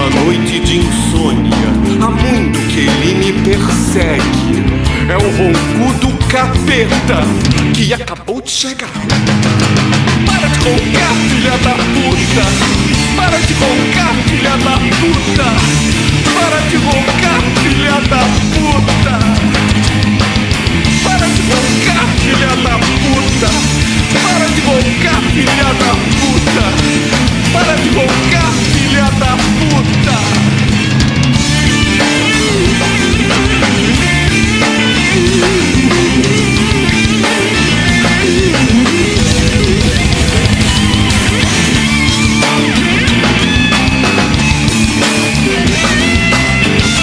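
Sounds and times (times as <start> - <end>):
instrumental punk rock music: 0.0 - 47.0.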